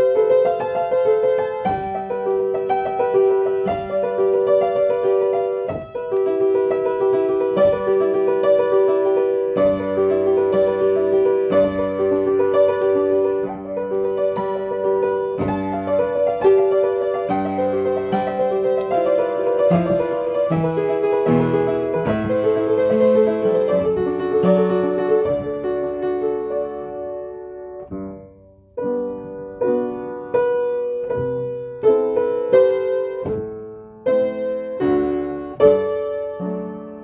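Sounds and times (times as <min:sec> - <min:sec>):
solo acoustic piano: 0:00.0 - 0:37.0.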